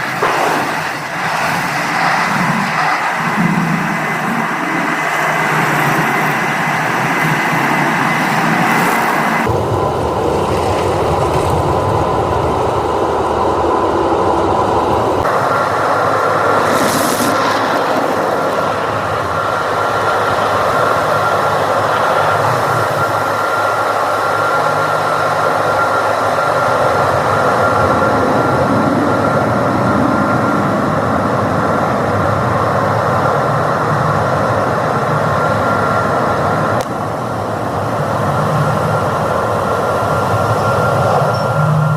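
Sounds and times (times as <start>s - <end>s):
car wash spraying and machinery: 0.0s - 41.9s
high whine: 0.0s - 41.9s.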